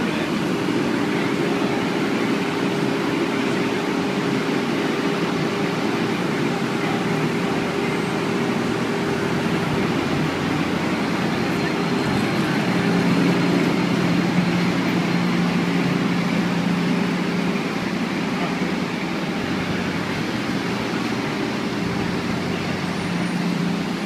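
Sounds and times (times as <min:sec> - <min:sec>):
street and road noise: 0:00.0 - 0:24.0.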